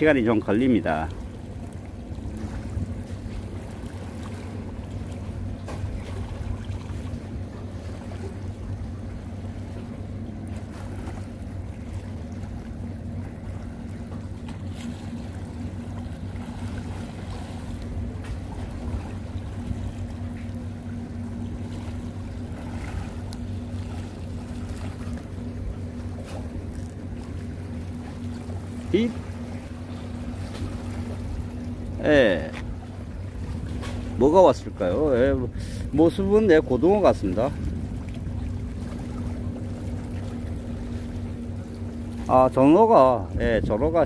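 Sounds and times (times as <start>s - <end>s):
boat engine droning: 0.0s - 44.0s
water noise: 0.0s - 44.0s
wind: 0.0s - 44.0s.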